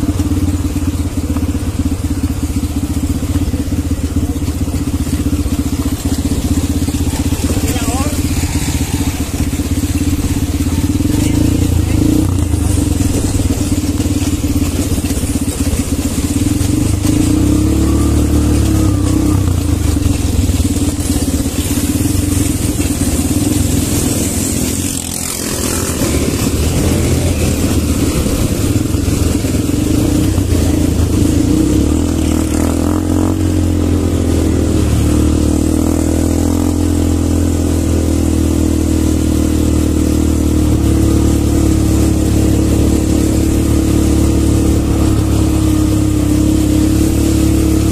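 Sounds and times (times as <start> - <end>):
quad bike engines running: 0.0 - 47.9.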